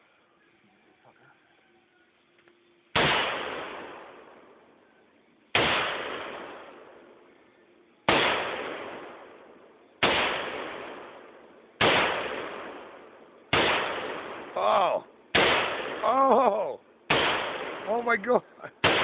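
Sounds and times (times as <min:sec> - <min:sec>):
rifle shots with echo: 0:02.9 - 0:04.8, 0:05.5 - 0:19.0.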